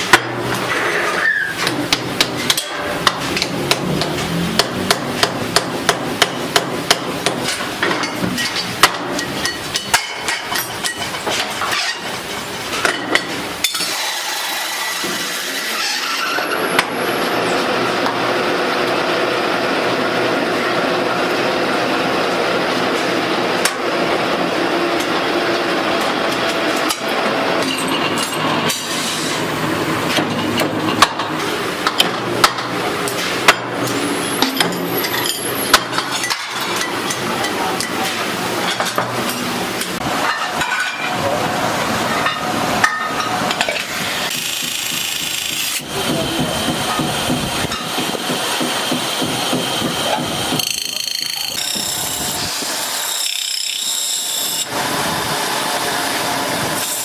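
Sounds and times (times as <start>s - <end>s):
factory machinery running: 0.0s - 57.0s.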